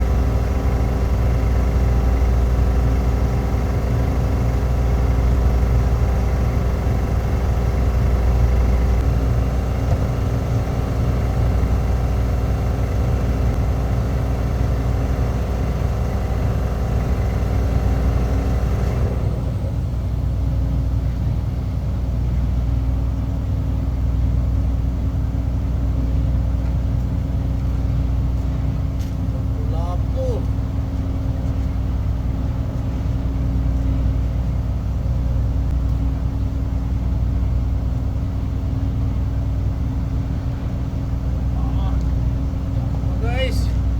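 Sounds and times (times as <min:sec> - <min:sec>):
ship engine low hum: 0:00.0 - 0:43.9.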